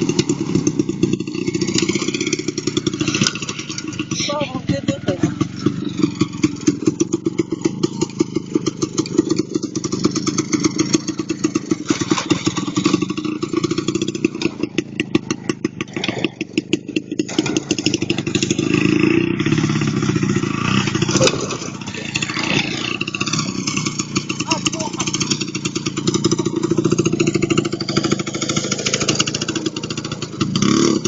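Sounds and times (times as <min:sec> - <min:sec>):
two-stroke motorcycle engine revving: 0:00.0 - 0:31.0.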